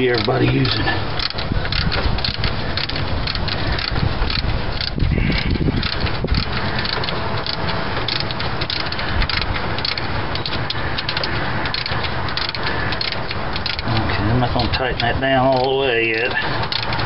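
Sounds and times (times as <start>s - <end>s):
steady rustling noise: 0.0s - 17.0s
wrench clicking and scraping: 0.0s - 17.0s.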